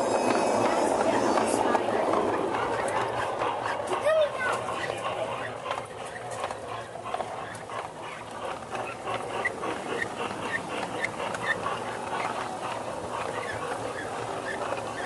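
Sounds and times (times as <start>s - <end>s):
model train wheels clicking: 0.0s - 15.0s.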